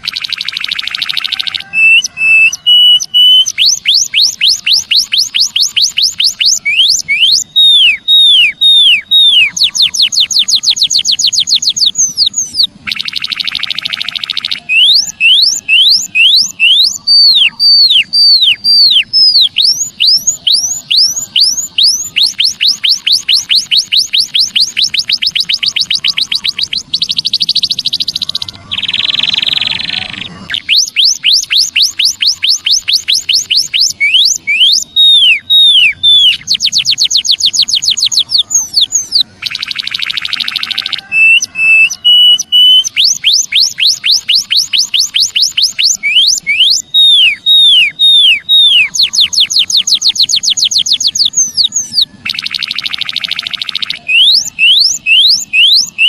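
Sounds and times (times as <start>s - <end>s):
harsh buzzy bird calls: 0.0s - 56.0s
recorded bird song: 0.0s - 56.0s.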